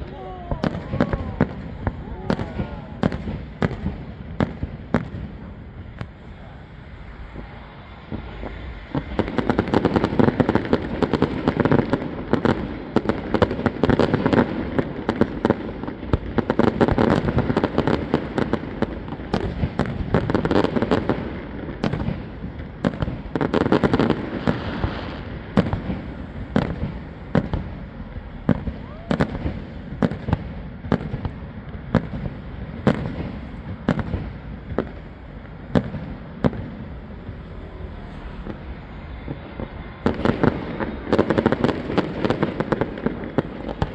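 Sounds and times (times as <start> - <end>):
fireworks bursting: 0.0 - 43.9
fireworks crackling: 0.0 - 43.9.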